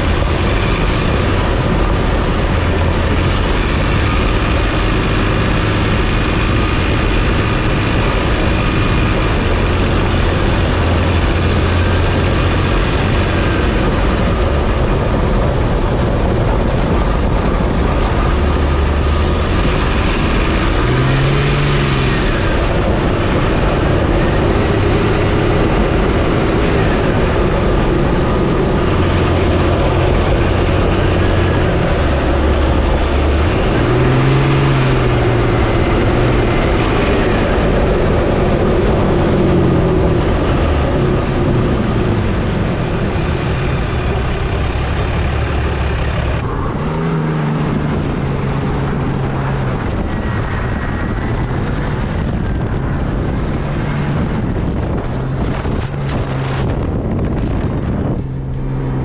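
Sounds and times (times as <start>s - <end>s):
truck engine and tyre rumble: 0.0s - 59.0s.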